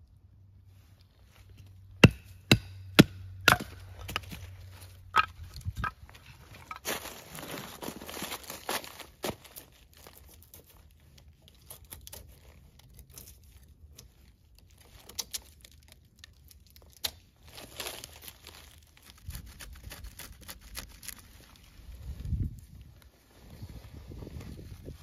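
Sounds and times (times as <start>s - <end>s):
knife scraping and peeling bark: 1.6s - 21.9s.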